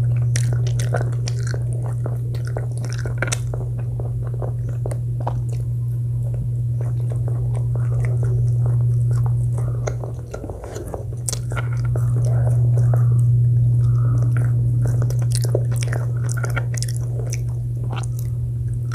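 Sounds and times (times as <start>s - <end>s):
chewing and biting: 0.0s - 18.9s
steady low hum: 0.0s - 18.9s.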